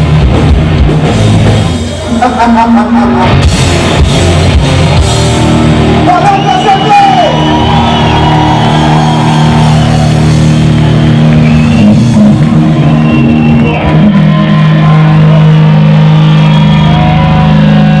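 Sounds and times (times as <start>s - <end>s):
distorted electric guitars: 0.0s - 18.0s
heavy metal band playing: 0.0s - 18.0s.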